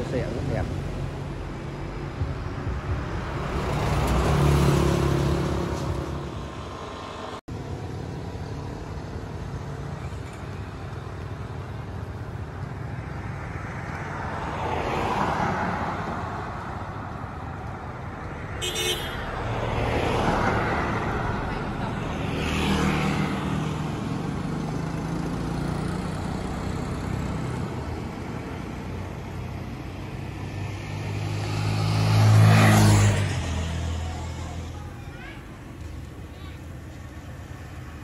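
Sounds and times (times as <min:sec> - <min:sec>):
motorbikes and cars passing: 0:00.0 - 0:38.0.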